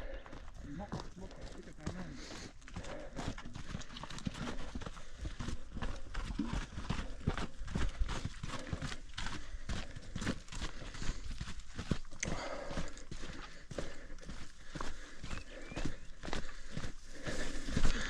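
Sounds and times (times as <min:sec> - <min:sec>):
footsteps crunching on loose stone: 0:00.0 - 0:18.0.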